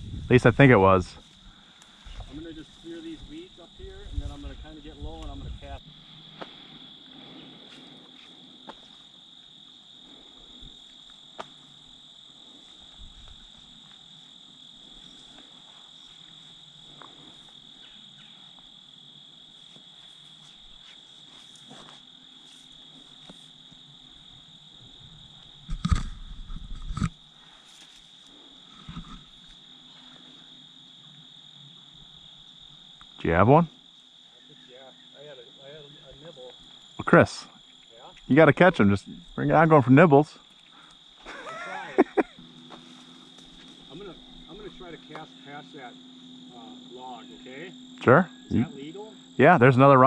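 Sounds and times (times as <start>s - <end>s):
crickets chirring: 0.0s - 50.0s.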